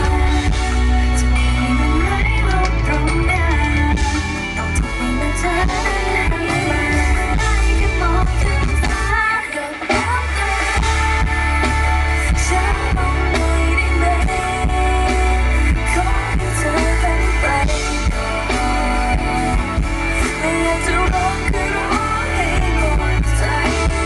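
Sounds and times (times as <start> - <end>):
heavy bass: 0.0 - 9.3, 9.9 - 24.0
live pop song with singing: 0.0 - 24.0.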